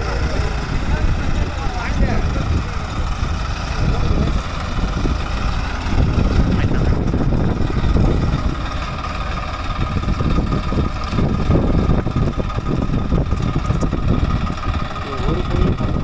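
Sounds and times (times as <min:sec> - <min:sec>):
tractor diesel engine running hard: 0:00.0 - 0:16.0.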